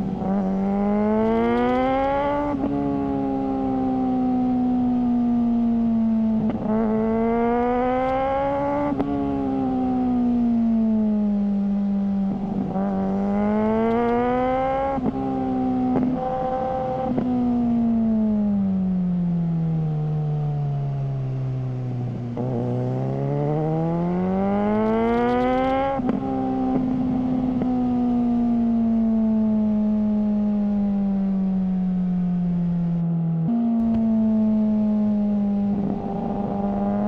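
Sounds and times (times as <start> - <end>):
motorcycle engine revving: 0.0 - 18.7, 21.5 - 37.0.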